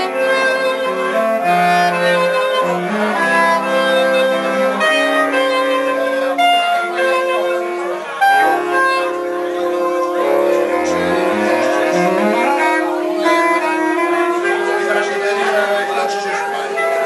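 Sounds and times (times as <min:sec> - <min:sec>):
saxophone quartet chords: 0:00.0 - 0:17.0.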